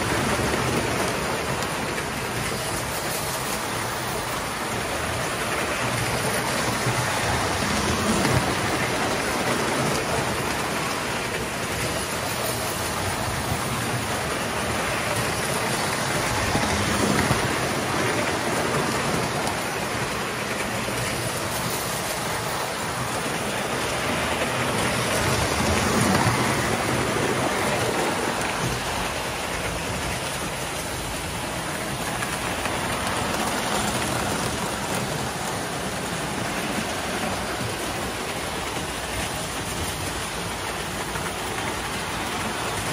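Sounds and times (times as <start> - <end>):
toy train wheels clattering on track: 0.0 - 42.9.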